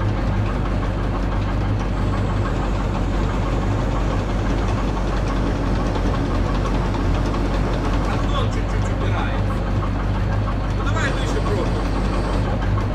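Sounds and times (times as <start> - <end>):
heavy truck engine idling: 0.0 - 12.9.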